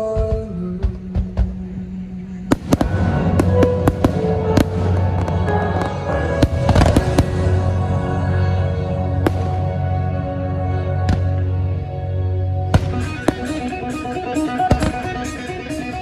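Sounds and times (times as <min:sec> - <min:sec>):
music with sustained chords: 0:01.9 - 0:16.0.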